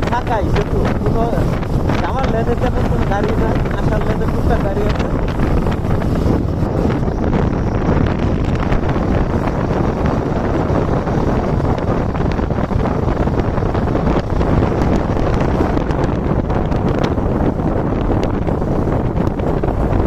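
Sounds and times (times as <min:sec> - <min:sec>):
motorcycle rumble: 0:00.0 - 0:20.0
wind rushing over microphone: 0:00.0 - 0:20.0.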